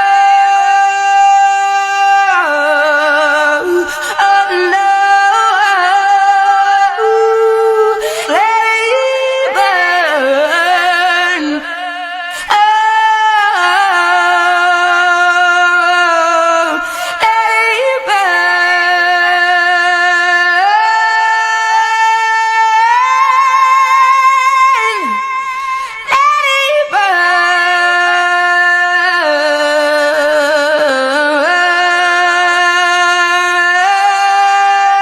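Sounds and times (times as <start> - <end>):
woman singing wordless notes: 0.0 - 35.0.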